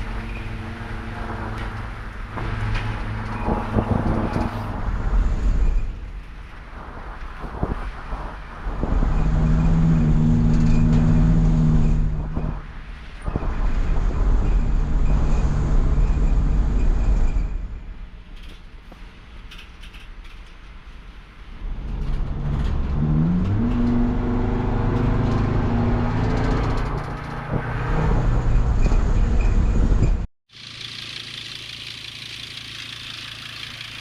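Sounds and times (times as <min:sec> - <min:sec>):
diesel van engine driving: 0:00.0 - 0:19.2, 0:21.1 - 0:34.0
road noise: 0:00.0 - 0:34.0.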